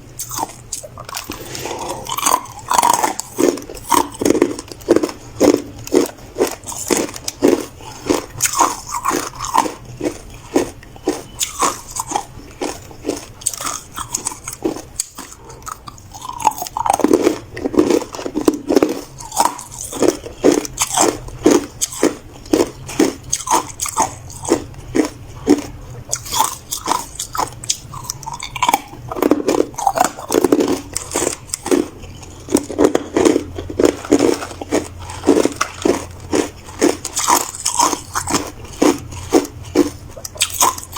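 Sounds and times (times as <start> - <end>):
person chewing hard ice: 0.0 - 40.9.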